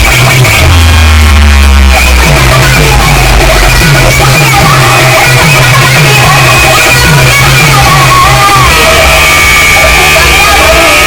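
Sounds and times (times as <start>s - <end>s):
loud music with stepping bass: 0.0s - 11.0s.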